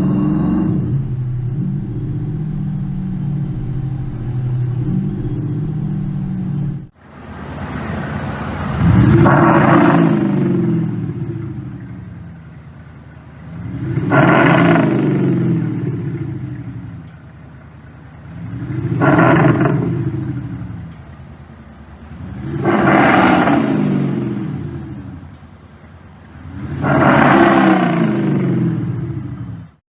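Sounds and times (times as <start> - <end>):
simulated sports car engine revving: 0.0 - 29.8.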